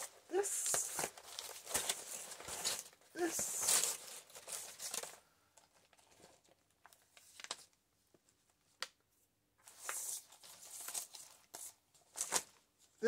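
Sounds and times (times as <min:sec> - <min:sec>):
paper pages rustling: 0:00.0 - 0:09.0, 0:09.6 - 0:12.7.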